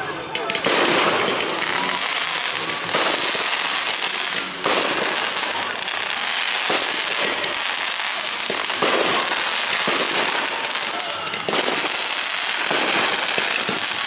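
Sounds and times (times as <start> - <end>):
fireworks crackling: 0.0 - 14.0
firework shells bursting: 0.4 - 14.0.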